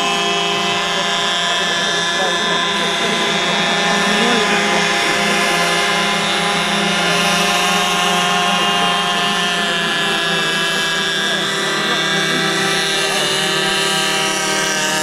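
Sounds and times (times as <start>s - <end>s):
model boat engine buzzing drone: 0.0s - 15.0s.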